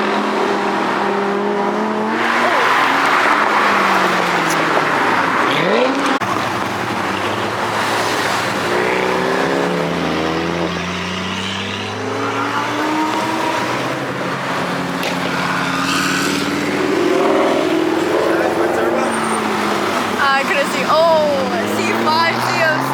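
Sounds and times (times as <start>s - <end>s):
car engine accelerating: 0.0s - 22.9s
road and tyre noise: 0.0s - 22.9s.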